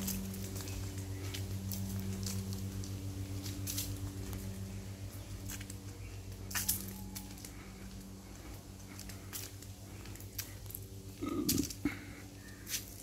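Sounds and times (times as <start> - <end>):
footsteps on paved path: 0.0 - 13.0
steady low hum: 0.0 - 13.0.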